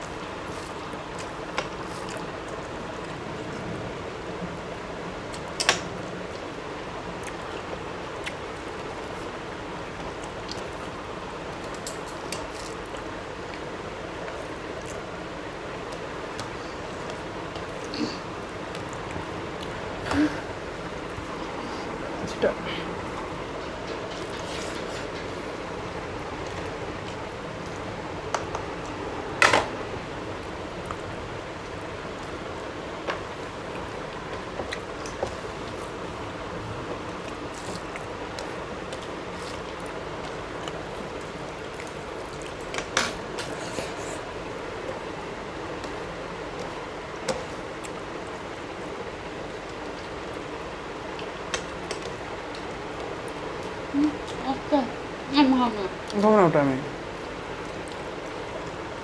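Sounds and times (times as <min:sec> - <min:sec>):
people eating by hand: 0:00.0 - 0:59.0
steady background noise: 0:00.0 - 0:59.0.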